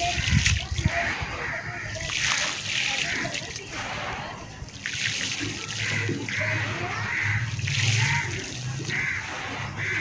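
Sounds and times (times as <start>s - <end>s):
grit pouring into wet slurry: 0.0s - 9.8s.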